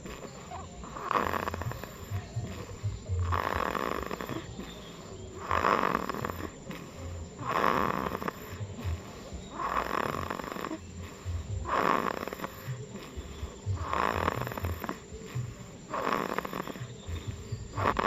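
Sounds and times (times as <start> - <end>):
person snoring: 0.0 - 18.0.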